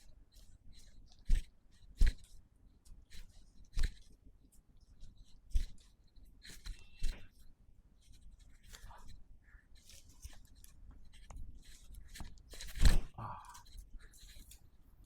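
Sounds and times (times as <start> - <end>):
clothing rustling and scraping: 0.2 - 15.0.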